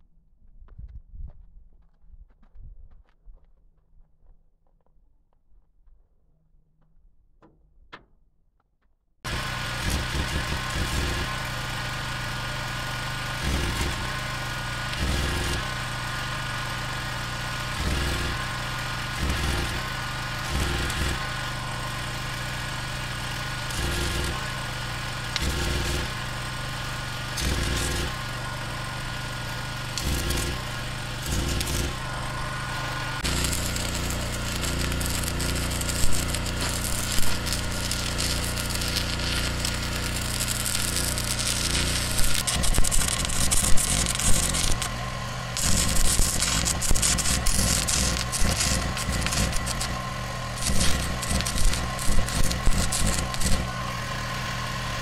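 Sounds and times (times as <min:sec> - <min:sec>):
crackling welding arc: 0:09.3 - 0:54.3.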